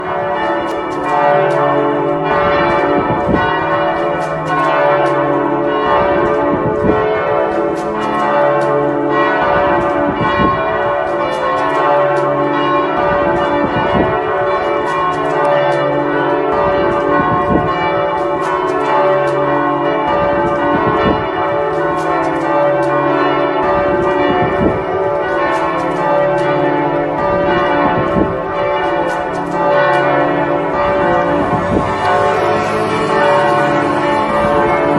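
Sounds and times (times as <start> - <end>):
church bells pealing: 0.0 - 34.9.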